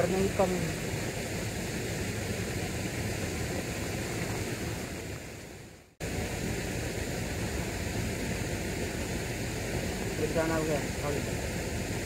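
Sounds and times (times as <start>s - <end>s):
river flowing: 0.0s - 12.0s.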